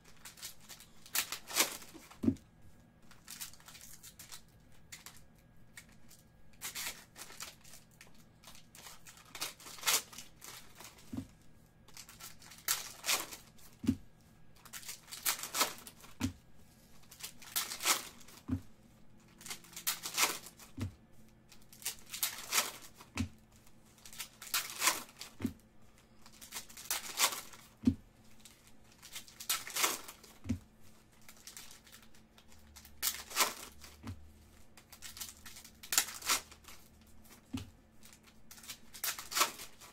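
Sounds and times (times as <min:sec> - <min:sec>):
plastic wrappers tearing and crinkling: 0:00.0 - 0:02.2, 0:03.1 - 0:05.2, 0:05.8 - 0:11.2, 0:11.9 - 0:13.8, 0:14.6 - 0:16.2, 0:17.0 - 0:18.6, 0:19.2 - 0:20.8, 0:21.5 - 0:23.2, 0:23.9 - 0:25.4, 0:26.0 - 0:34.1, 0:34.8 - 0:39.9.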